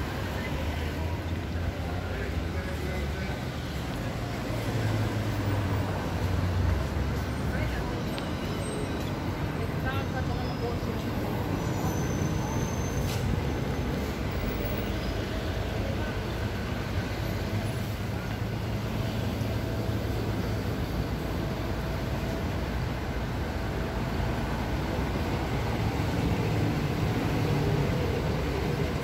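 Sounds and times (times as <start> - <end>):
road traffic rumble: 0.0 - 29.0
urban background noise: 0.0 - 29.0.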